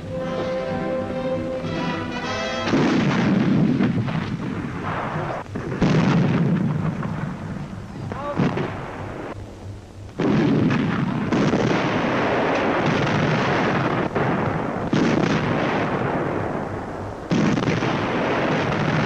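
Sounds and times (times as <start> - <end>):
artillery firing with rumble: 2.6 - 9.4, 10.2 - 19.0.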